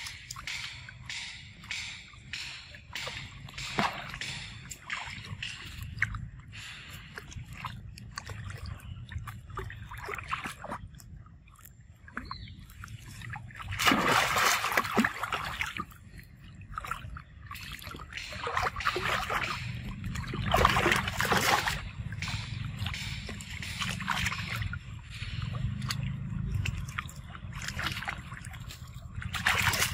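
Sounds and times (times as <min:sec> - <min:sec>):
monkeys splashing in water: 0:02.2 - 0:29.9.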